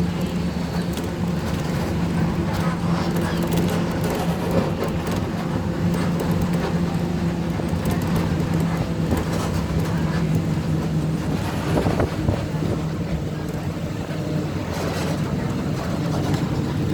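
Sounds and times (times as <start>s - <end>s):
road noise: 0.0s - 16.9s
vehicle engine running: 0.0s - 16.9s.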